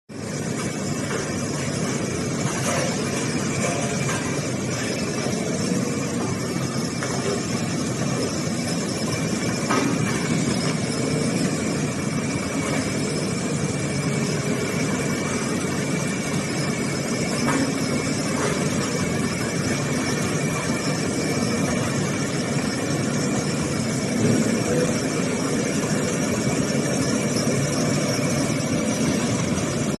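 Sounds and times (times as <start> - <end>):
high whine: 0.1 - 30.0
road roller engine running: 0.1 - 30.0.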